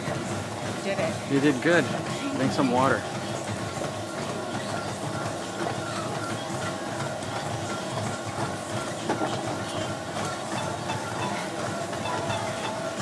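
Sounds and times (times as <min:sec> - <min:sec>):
treadmill belt rumble: 0:00.0 - 0:13.0
treadmill motor whine: 0:00.0 - 0:13.0.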